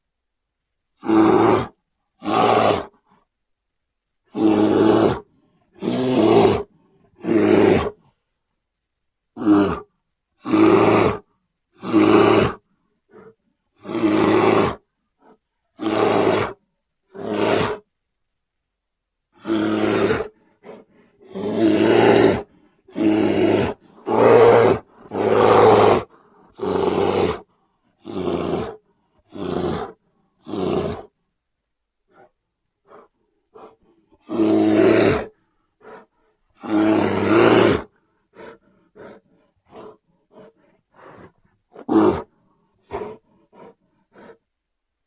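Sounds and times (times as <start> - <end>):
bear deep rough calls: 1.0 - 3.2, 4.3 - 8.2, 9.4 - 17.9, 19.3 - 31.2, 32.1 - 44.5.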